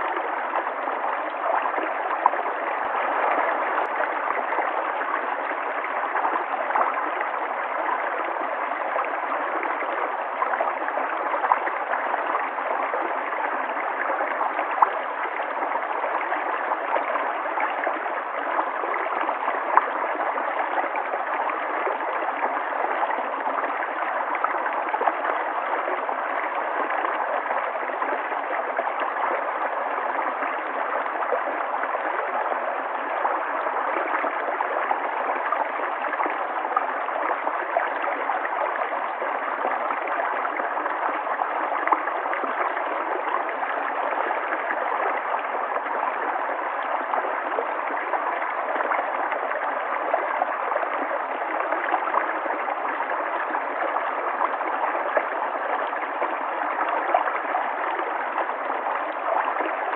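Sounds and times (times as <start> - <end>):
river water gurgling over stones: 0.0 - 59.9.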